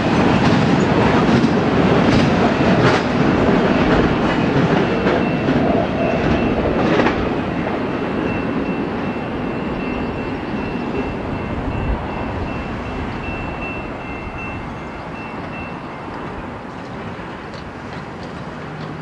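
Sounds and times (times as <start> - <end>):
freight train rumbling on track: 0.0 - 19.0.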